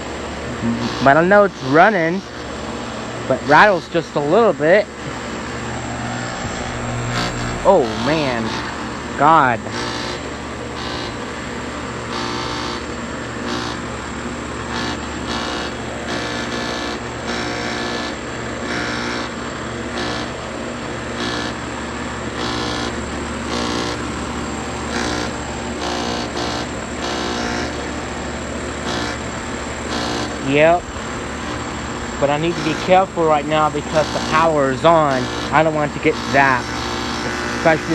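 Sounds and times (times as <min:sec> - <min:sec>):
air conditioner compressor humming: 0:00.0 - 0:37.9
rattling buzz: 0:00.0 - 0:37.9.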